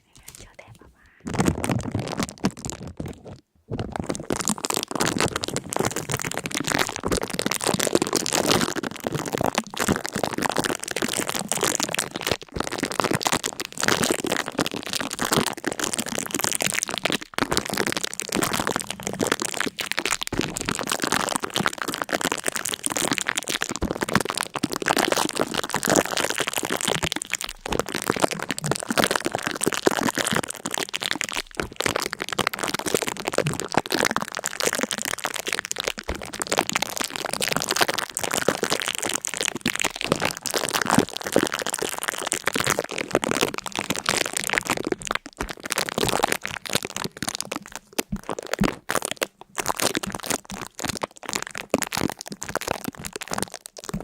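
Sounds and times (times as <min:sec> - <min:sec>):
dense crackling and crunching: 0:00.0 - 0:54.0.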